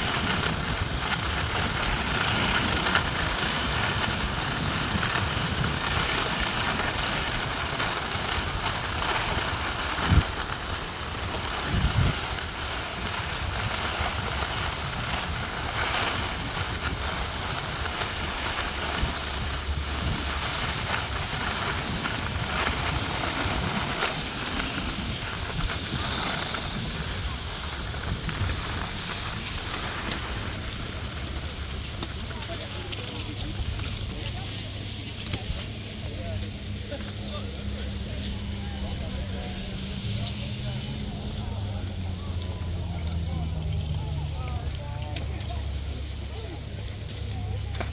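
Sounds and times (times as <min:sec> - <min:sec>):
skis scraping over snow: 0:00.0 - 0:47.9.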